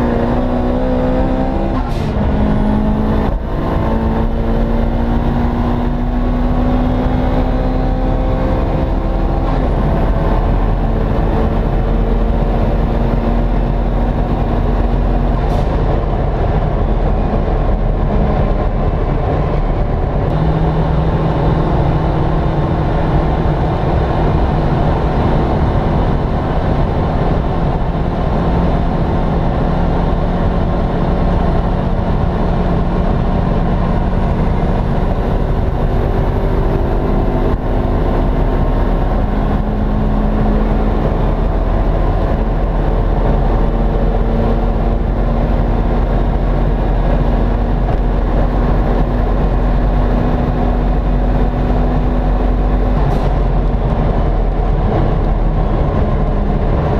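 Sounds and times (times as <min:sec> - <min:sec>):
road and wind noise: 0:00.0 - 0:56.9
turbo car engine running hard: 0:00.0 - 0:56.9.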